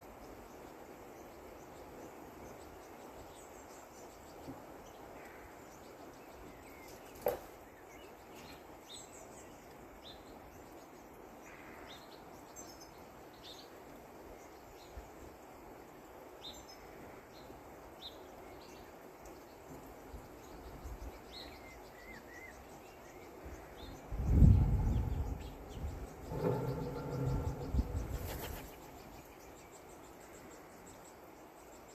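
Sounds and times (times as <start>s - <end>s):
low hiss: 0.0s - 31.9s.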